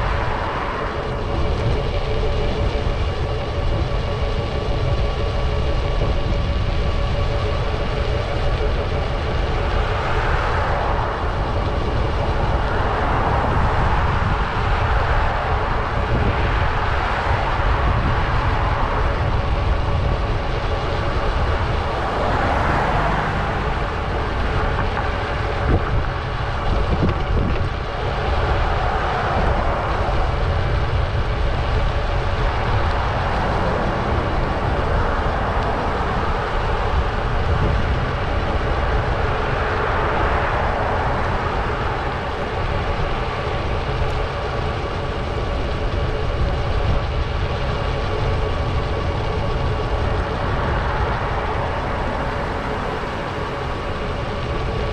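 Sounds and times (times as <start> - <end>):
vehicles passing: 0.0 - 5.6, 7.4 - 54.9
road noise: 0.0 - 54.9
wind rushing on microphone: 0.0 - 54.9.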